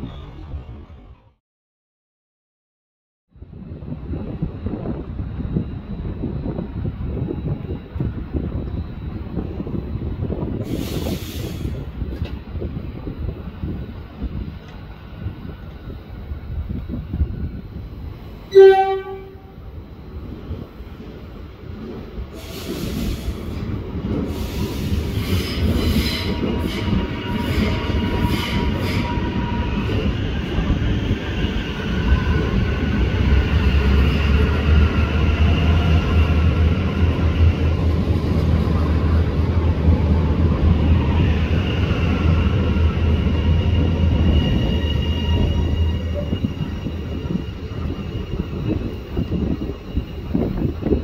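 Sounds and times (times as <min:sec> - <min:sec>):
train wheels rumbling on rail: 0:03.4 - 0:51.0.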